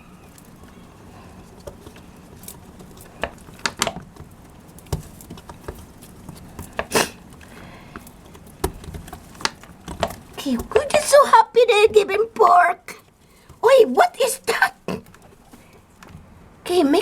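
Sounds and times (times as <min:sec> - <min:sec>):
seagulls pecking on hard surface: 0:00.0 - 0:17.0.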